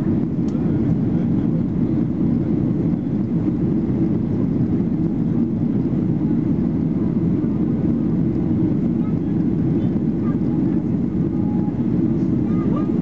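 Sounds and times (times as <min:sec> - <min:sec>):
airplane cabin jet engine rumble: 0:00.0 - 0:13.0.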